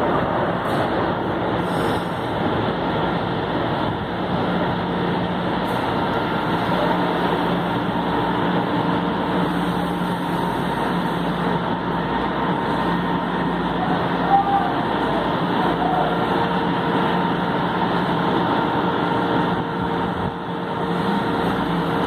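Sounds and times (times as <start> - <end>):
station background noise: 0.0 - 22.0
train equipment humming: 0.0 - 22.0.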